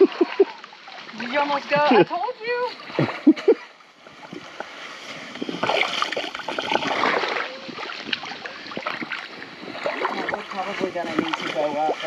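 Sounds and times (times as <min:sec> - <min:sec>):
water splashing from wading: 0:00.0 - 0:12.0.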